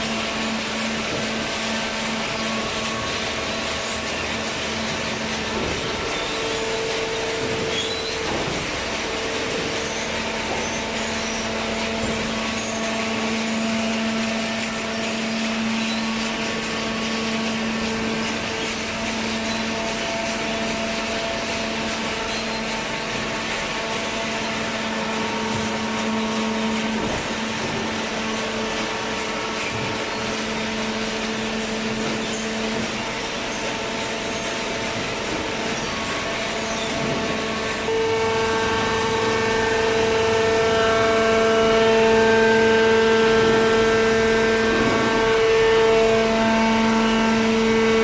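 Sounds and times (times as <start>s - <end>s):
hydraulic baler humming: 0.0s - 48.0s.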